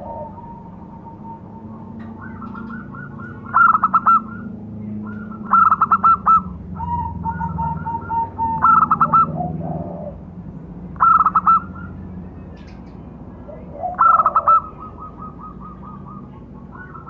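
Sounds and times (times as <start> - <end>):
dove cooing staccato call: 0.0 - 10.3, 10.9 - 12.1, 13.5 - 17.0.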